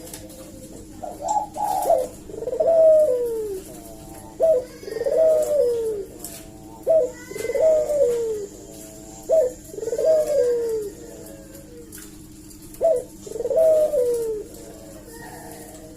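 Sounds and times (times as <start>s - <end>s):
dove cooing: 0.0s - 15.9s.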